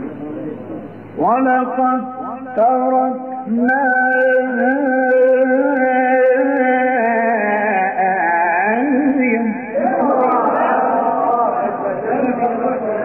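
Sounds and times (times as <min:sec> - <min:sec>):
man reciting in melodic chant: 0:00.0 - 0:10.3, 0:11.2 - 0:13.0.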